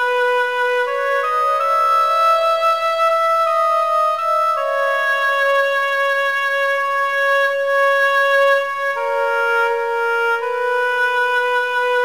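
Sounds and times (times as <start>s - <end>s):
flute-like hymn playback: 0.0s - 12.0s.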